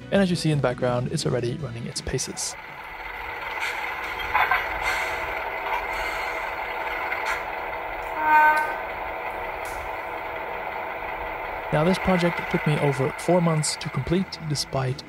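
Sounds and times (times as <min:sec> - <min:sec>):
diesel engine sound through speakers: 0:01.0 - 0:15.0.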